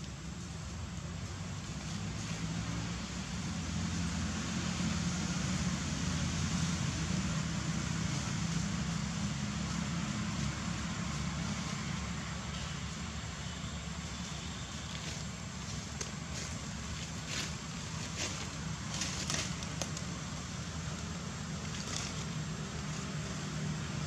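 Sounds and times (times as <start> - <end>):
distant vehicle engine rumble: 0.0 - 24.0.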